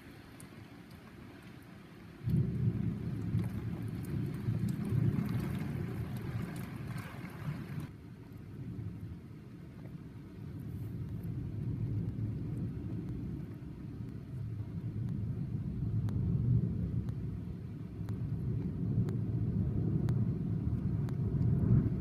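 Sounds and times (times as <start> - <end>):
rainstorm rumble: 0.0 - 22.0
raindrops ticking on glass: 0.2 - 9.0, 9.8 - 22.0.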